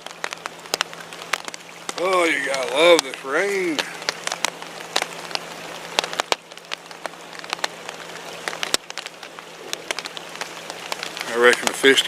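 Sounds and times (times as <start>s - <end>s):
heavy raindrops tapping: 0.0s - 12.0s
steady rain hiss: 0.0s - 12.0s.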